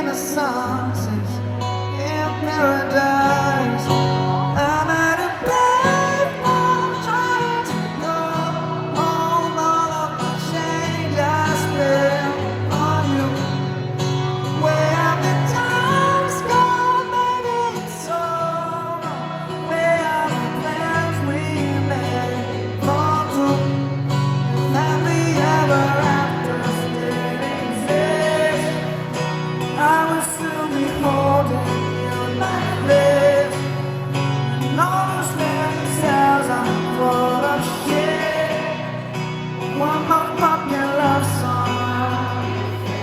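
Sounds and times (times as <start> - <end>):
person singing: 0.0 - 43.0
pop band playing live: 0.0 - 43.0.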